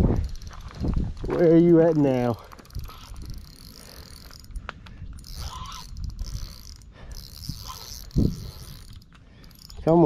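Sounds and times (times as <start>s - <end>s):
fishing reel gears whirring: 0.0s - 0.8s, 1.4s - 10.0s
fishing reel clicking: 0.2s - 10.0s.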